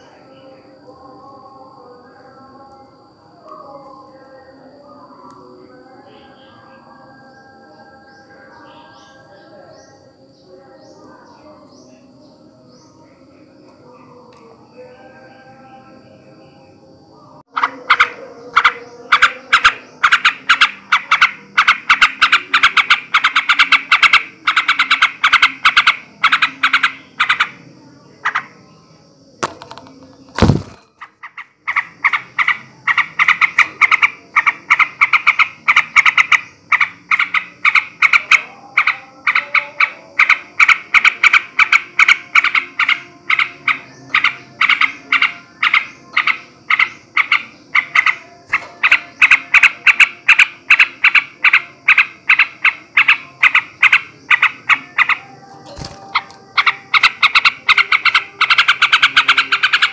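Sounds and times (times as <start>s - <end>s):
bulbul chattering song: 0.0s - 59.9s.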